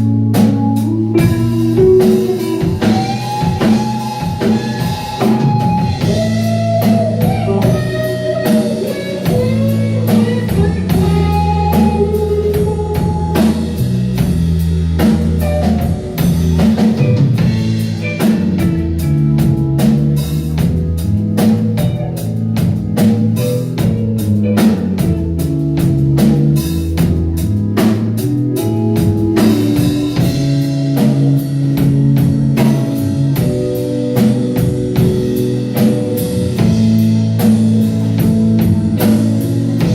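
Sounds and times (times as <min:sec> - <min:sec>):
bass: 0:00.0 - 0:39.9
drum kit: 0:00.0 - 0:39.9
guitar: 0:00.0 - 0:39.9.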